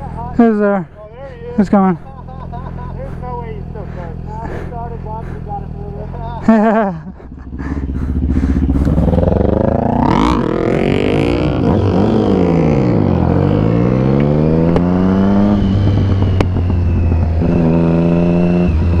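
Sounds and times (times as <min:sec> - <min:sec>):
low steady rumble: 0:00.0 - 0:17.6
motorcycle engines revving: 0:00.0 - 0:19.0.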